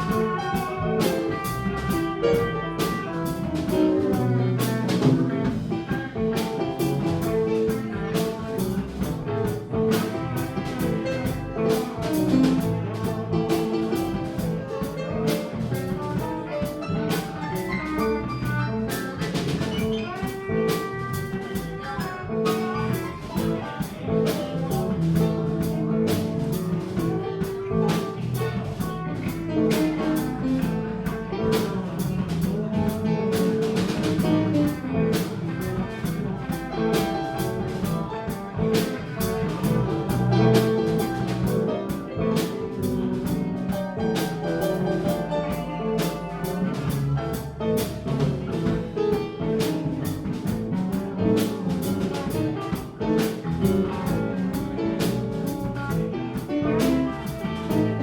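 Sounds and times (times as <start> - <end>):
guitar: 0.0 - 58.0
live band playing: 0.0 - 58.0
steady drum beat: 0.0 - 58.0.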